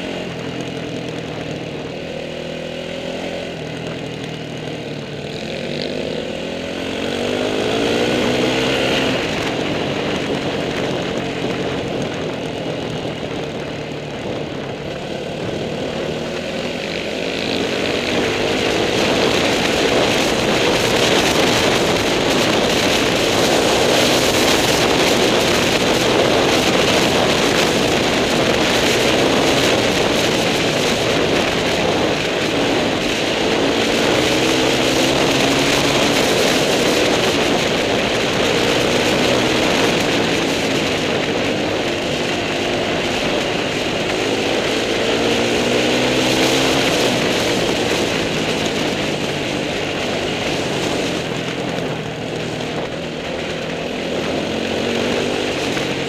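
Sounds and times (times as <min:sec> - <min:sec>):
motorcycle engine accelerating: 0:00.0 - 0:56.0
wind noise: 0:00.0 - 0:56.0.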